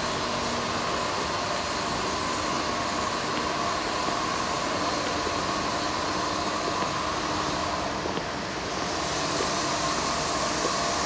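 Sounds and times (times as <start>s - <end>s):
faint high whine: 0.0s - 11.0s
steady mechanical drone: 0.0s - 11.0s.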